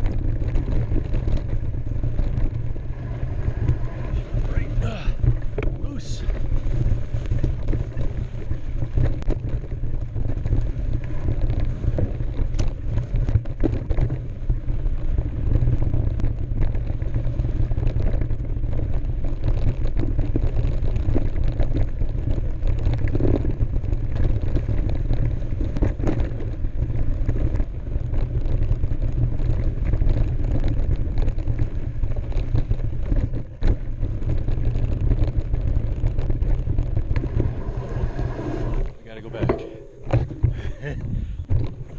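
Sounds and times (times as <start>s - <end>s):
bike rattling clicks and knocks: 0.0s - 37.8s
tyre rolling over dirt trail: 0.0s - 41.9s
wind buffeting microphone: 0.0s - 41.9s.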